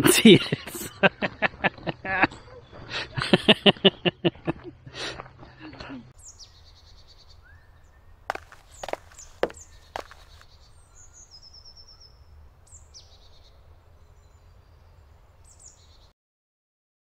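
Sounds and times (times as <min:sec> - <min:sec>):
woodland birdsong: 0:00.8 - 0:16.1.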